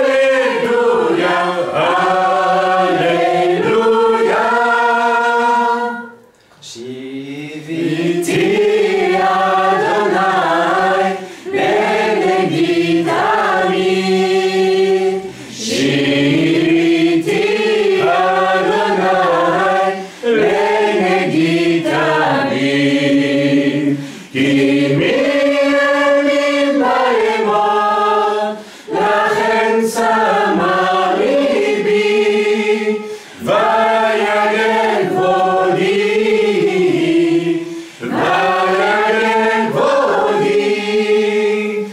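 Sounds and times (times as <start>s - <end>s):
group singing a worship song: 0.0s - 41.9s.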